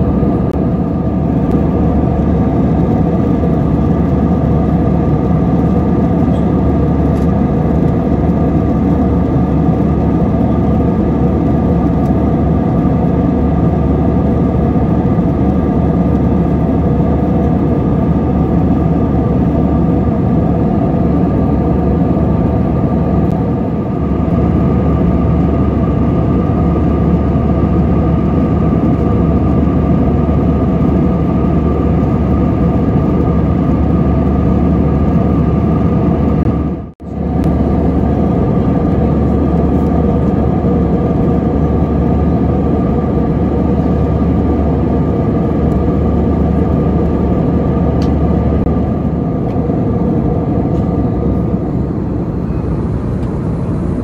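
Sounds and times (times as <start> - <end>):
airflow rush in plane cabin: 0.0 - 54.0
jet engines humming and whining: 0.0 - 54.0.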